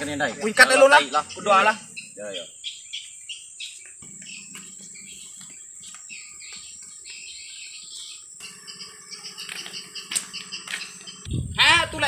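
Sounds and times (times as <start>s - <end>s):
small birds chirping: 0.0s - 12.0s
high-pitched insect drone: 0.5s - 12.0s.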